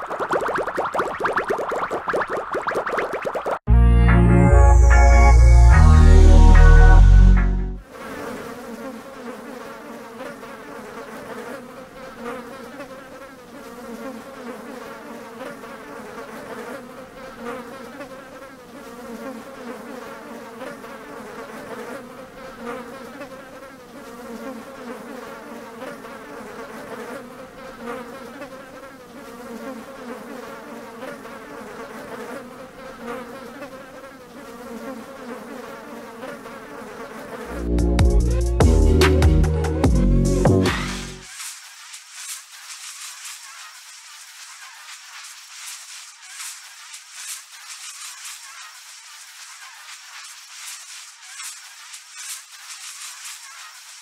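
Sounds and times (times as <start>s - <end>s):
flies buzzing: 0.0s - 3.7s, 4.8s - 54.0s.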